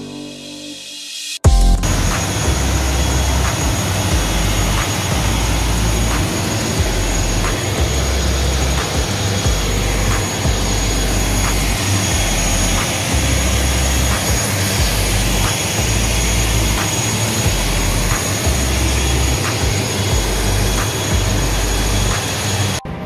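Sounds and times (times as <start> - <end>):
aircraft engine whine and roar: 1.4 - 23.0.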